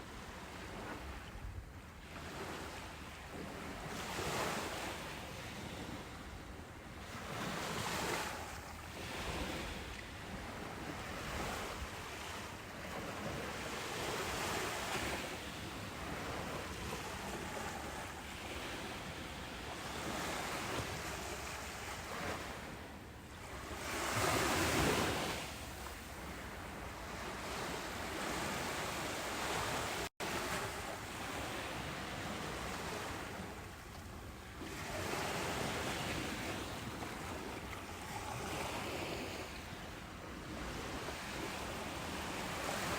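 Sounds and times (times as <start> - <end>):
ocean waves washing on beach: 0.0 - 42.9.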